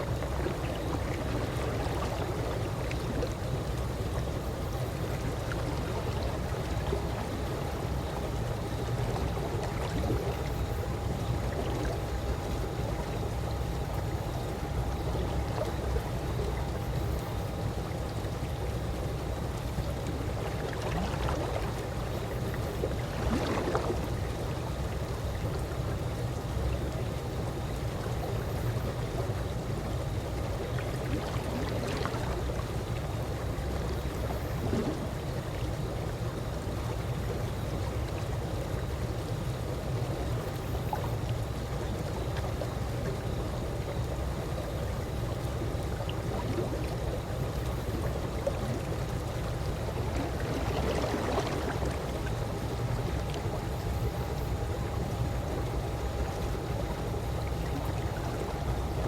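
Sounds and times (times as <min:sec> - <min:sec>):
soft water splashes: 0:00.0 - 0:59.0
water lapping and trickling: 0:00.0 - 0:59.0.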